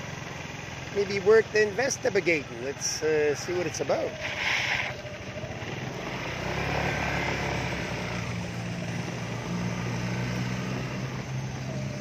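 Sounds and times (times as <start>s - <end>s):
motor scooter engine running: 0.0s - 12.0s.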